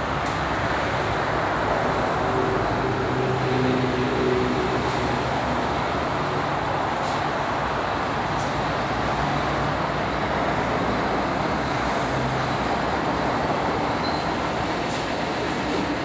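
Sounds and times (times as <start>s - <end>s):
train rumbling and hissing: 0.0s - 16.0s.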